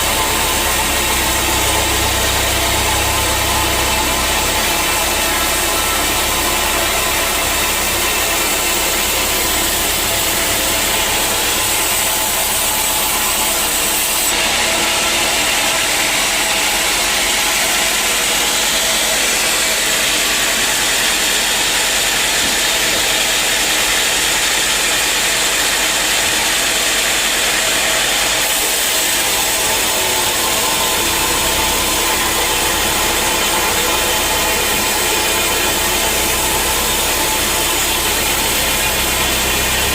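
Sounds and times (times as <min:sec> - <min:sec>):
bandsaw mill cutting wood: 0:00.0 - 0:39.9.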